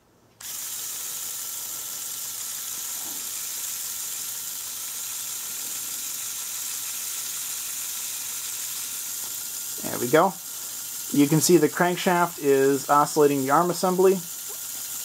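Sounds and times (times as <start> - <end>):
small electric motor whirring: 0.4 - 15.0.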